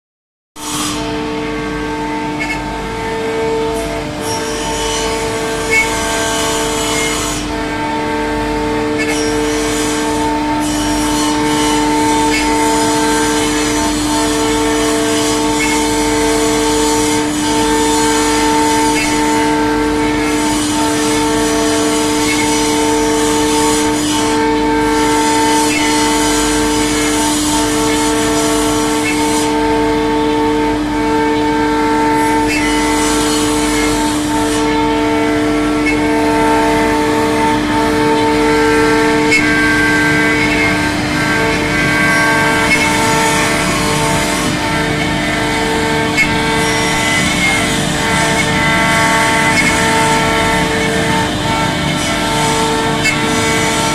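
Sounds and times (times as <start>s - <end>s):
wood router spindle whine: 0.6s - 53.9s.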